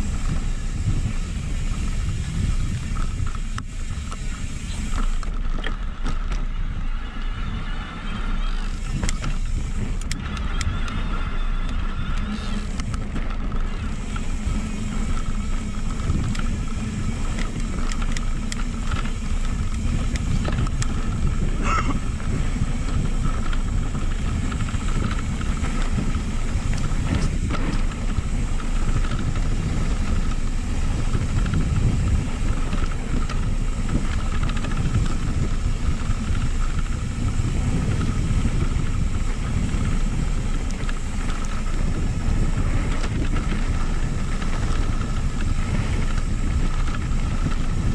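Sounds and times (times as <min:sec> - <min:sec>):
bike clicks and rattles: 0:00.0 - 0:47.9
bike tyres rolling on dirt: 0:00.0 - 0:47.9
wind buffeting microphone: 0:00.0 - 0:47.9.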